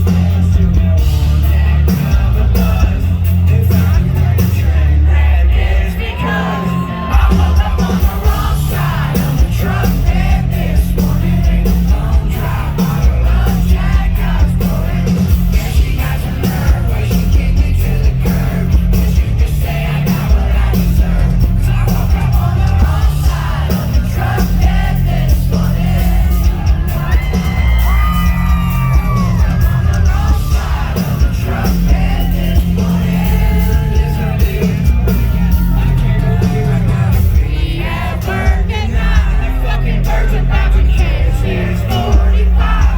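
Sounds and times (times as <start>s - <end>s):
country rock band playing: 0.0s - 42.9s
voices yelling and singing along: 0.0s - 42.9s.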